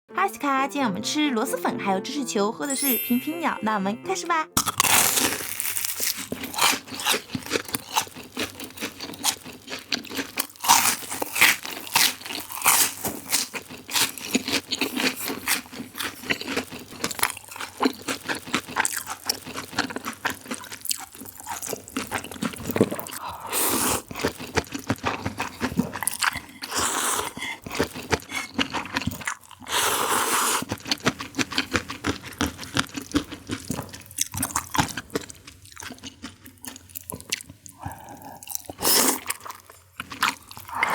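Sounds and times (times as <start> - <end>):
crunching and chewing: 4.6 - 40.9.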